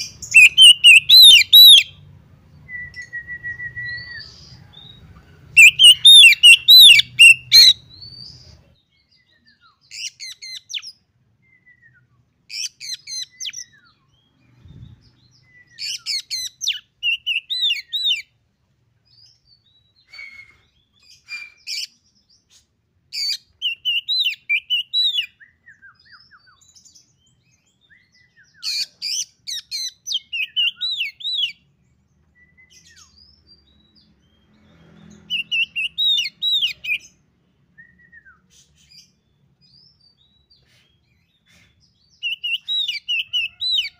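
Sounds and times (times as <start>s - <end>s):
bird singing chattering and whistling: 0.0s - 18.2s, 19.2s - 31.7s, 37.8s - 43.9s.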